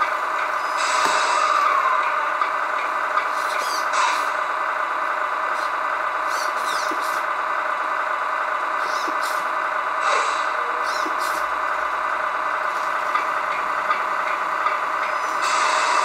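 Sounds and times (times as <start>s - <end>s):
diesel truck idle through speaker: 0.0s - 16.0s.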